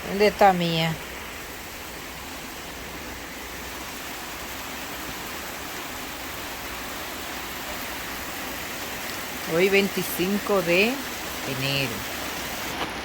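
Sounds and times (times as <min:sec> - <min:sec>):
heavy rain downpour: 0:00.0 - 0:13.0.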